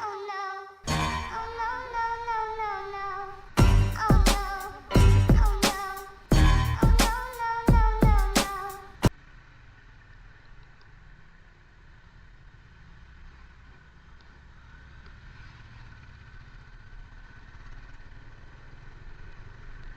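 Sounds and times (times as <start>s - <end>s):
vehicle engine rumbling: 0.9s - 19.9s.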